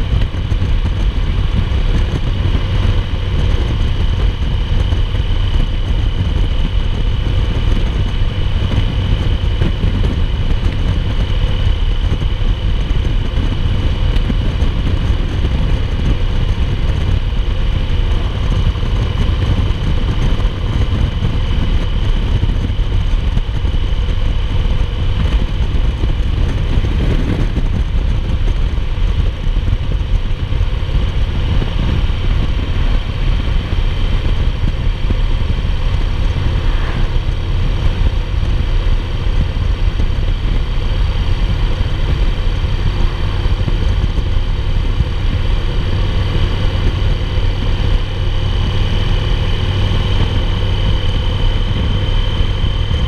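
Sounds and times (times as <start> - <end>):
wind rushing: 0.0 - 48.1
motorcycle engine cruising: 0.0 - 53.0.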